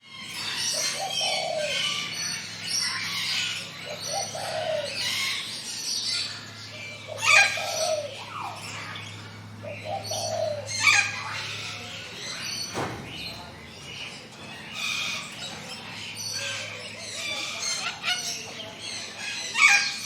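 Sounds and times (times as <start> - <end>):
songbirds chirping and twittering: 0.0 - 20.0.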